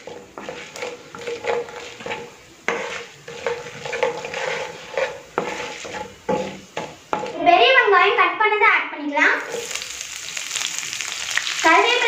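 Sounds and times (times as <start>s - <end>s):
wooden spatula scraping a pan: 0.0s - 7.5s, 9.4s - 12.0s
seeds frying in oil sizzling: 0.0s - 8.6s, 9.2s - 12.0s.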